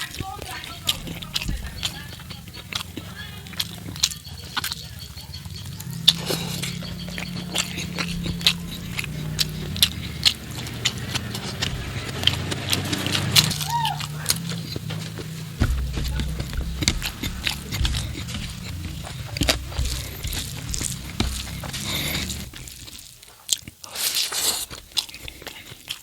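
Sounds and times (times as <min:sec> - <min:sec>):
low steady hum: 0:00.0 - 0:23.2
wet chewing and lip-smacking: 0:00.0 - 0:26.0.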